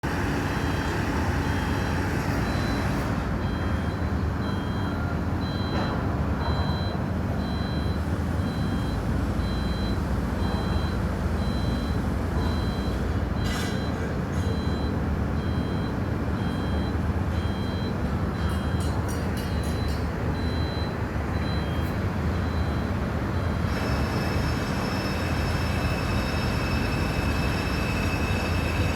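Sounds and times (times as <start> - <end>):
reversing alarm beeping: 0.5 - 28.9.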